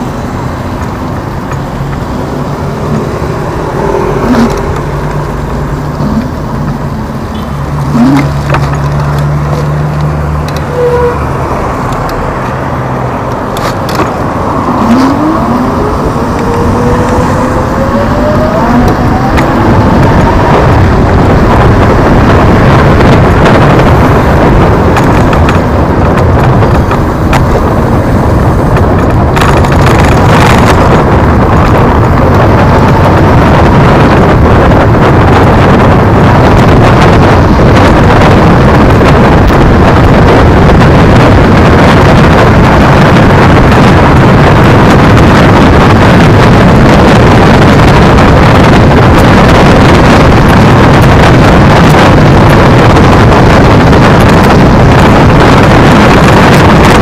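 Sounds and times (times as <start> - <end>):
tyre and road rumble: 0.0 - 57.0
wind buffeting microphone: 0.0 - 57.0.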